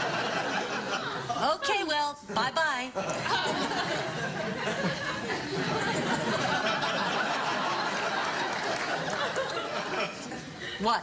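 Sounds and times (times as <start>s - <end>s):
audience laughing: 0.0s - 1.6s, 3.0s - 10.8s.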